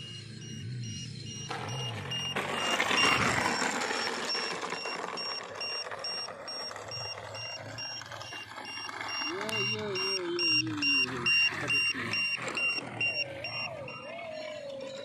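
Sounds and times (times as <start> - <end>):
high electronic beeps: 0.0 - 15.0.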